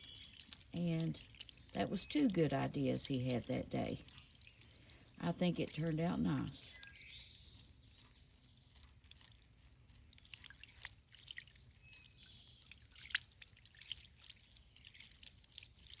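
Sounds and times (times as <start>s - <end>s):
water trickling and dripping: 0.0s - 16.0s.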